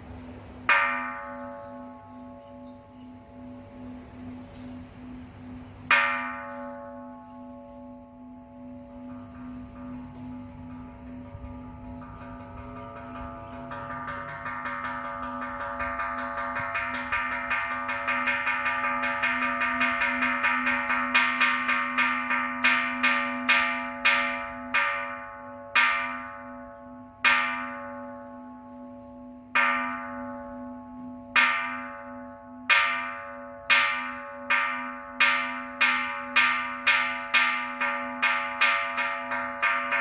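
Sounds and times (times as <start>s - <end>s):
temple bell struck with hammer: 0.6s - 40.0s.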